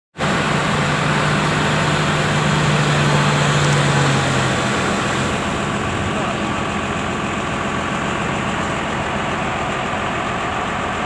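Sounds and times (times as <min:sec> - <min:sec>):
broad rushing noise: 0:00.2 - 0:11.0
low engine hum: 0:00.2 - 0:11.0.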